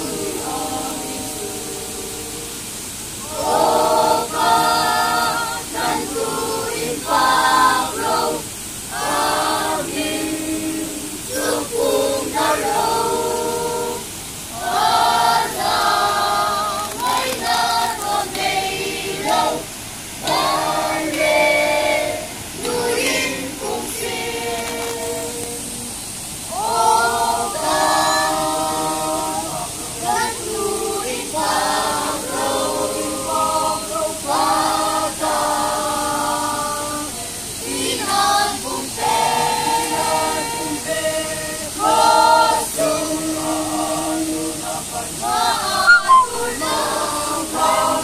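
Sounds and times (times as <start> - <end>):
choir singing unaccompanied: 0.0 - 48.0.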